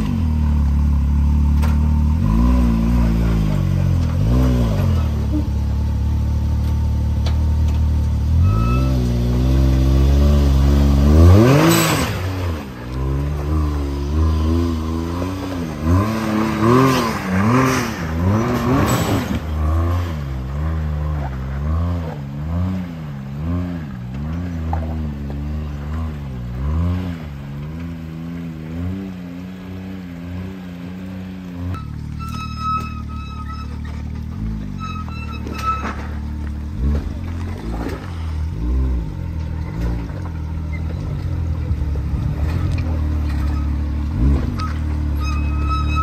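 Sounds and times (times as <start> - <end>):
engine revving in throttle blips: 0.0 - 46.0.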